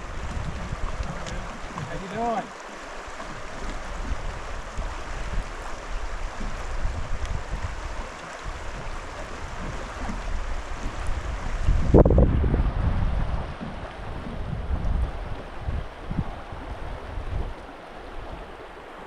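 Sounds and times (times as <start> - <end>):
wind buffeting microphone: 0.0 - 2.4, 3.0 - 19.0
river water rushing: 0.0 - 19.0.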